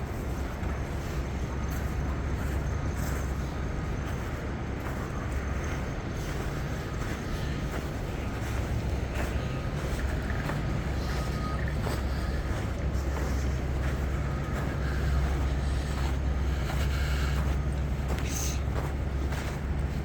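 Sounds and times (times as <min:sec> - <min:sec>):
footsteps on icy snow: 0:00.0 - 0:20.0.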